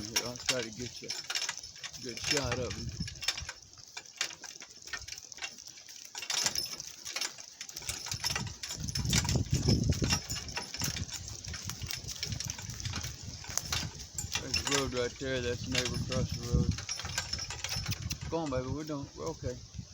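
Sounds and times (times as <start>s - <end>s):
cart rattling over rough ground: 0.0s - 19.9s.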